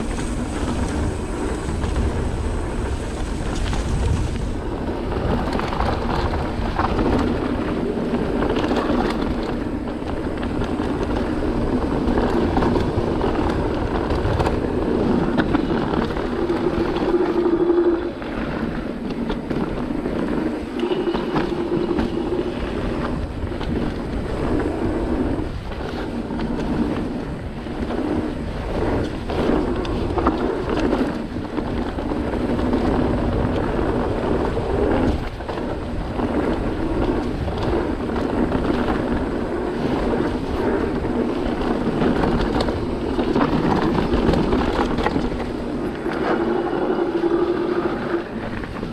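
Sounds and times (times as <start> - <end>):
mountain bike rolling on dirt: 0.0 - 48.9
wind buffeting microphone: 0.0 - 48.9.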